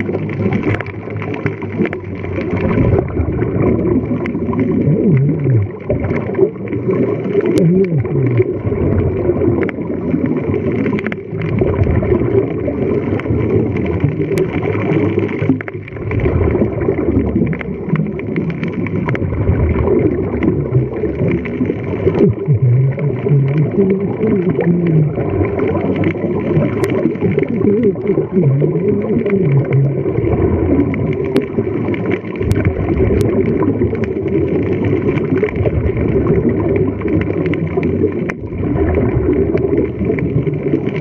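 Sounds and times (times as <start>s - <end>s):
low underwater rumble: 0.0s - 41.0s
underwater regulator bubbling: 0.0s - 41.0s.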